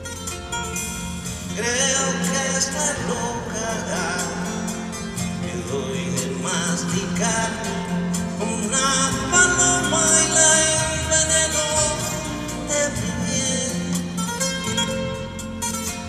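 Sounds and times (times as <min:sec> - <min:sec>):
acoustic guitar: 0:00.0 - 0:16.0
live band music: 0:00.0 - 0:16.0.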